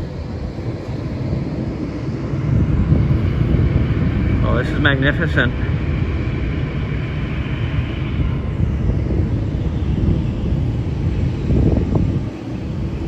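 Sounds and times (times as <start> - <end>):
faint high whine: 0.0 - 13.0
jet engines rumbling: 0.0 - 13.0.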